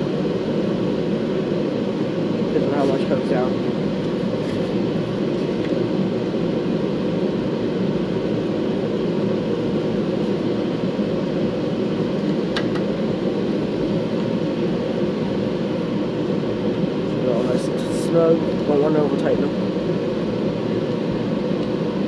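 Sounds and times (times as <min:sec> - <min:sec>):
space heater whirring: 0:00.0 - 0:22.0.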